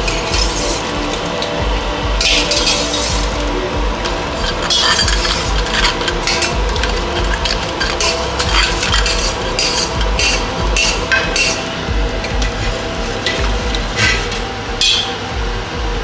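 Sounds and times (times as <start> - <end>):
spoon scraping and clinking pot: 0.0 - 15.1
low steady hum: 0.0 - 16.0.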